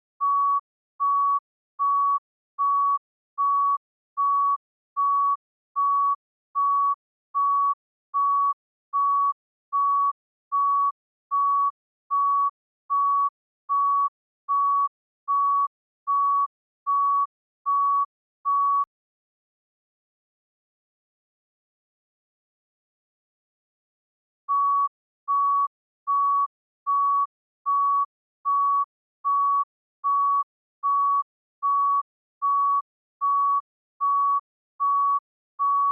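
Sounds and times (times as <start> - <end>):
heart monitor beeping: 0.2 - 18.9, 24.5 - 35.9.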